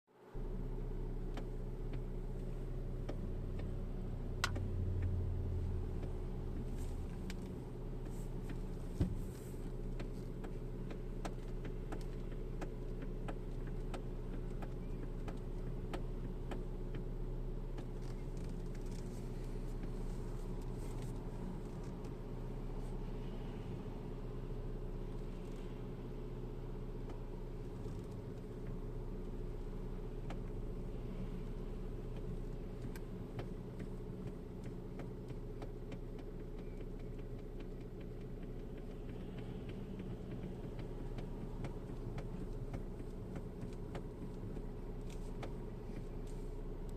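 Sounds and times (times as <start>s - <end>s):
engine humming: 0.2s - 46.9s
steering clicking and knocking: 0.8s - 23.3s, 24.1s - 46.9s.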